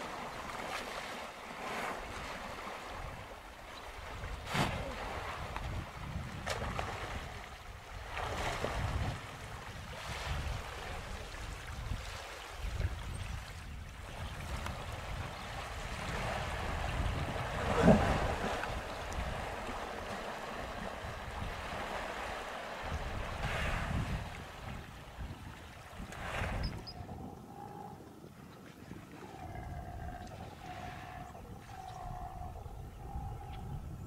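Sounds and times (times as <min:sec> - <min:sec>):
wind rumbling on microphone: 0:01.6 - 0:34.0.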